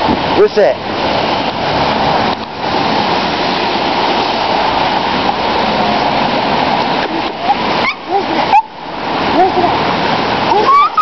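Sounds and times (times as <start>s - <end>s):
loud rushing noise: 0.0s - 10.8s.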